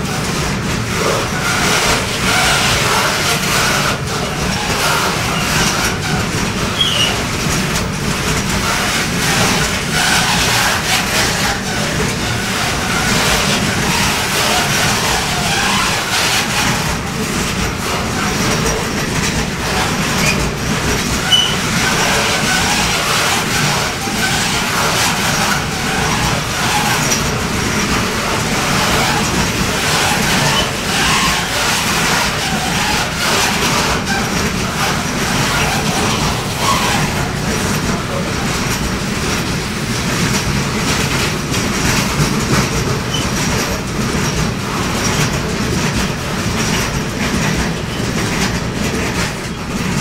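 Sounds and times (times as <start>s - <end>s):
freight train wheels on rails: 0.0s - 50.0s.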